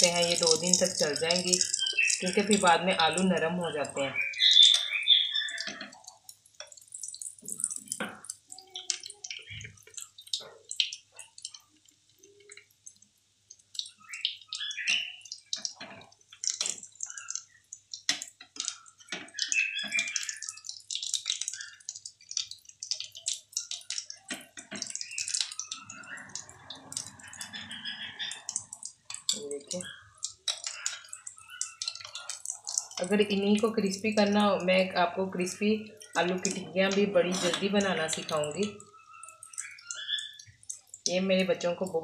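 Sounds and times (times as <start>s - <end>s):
patties sizzling in hot oil: 0.0s - 42.0s.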